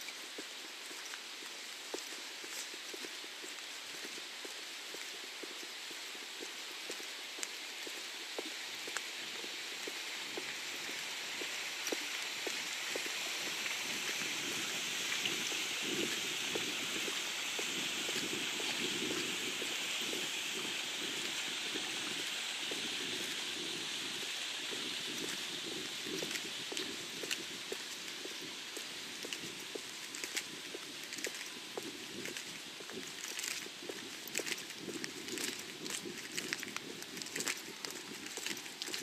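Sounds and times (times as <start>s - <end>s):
steady outdoor hiss: 0.0s - 39.0s
footsteps: 0.4s - 39.0s.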